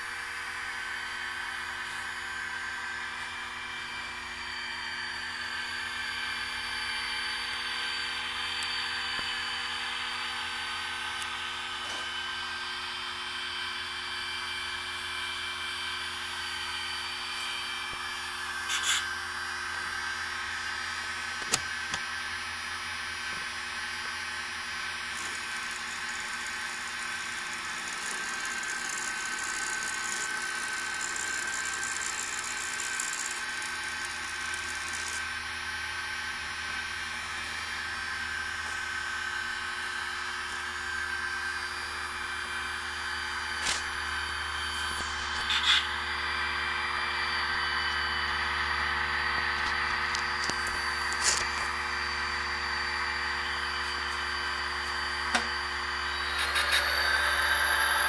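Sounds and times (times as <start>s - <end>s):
model locomotive engine hum: 0.0s - 58.0s.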